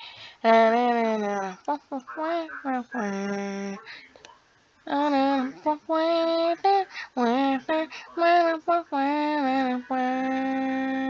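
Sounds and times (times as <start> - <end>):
person singing unaccompanied: 0.0 - 4.0, 4.9 - 11.0.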